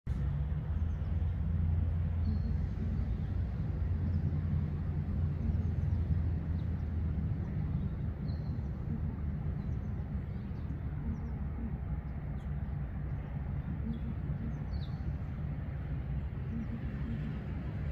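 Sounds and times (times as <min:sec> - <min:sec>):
distant road traffic rumble: 0:00.1 - 0:17.9
small birds chirping: 0:00.6 - 0:15.6.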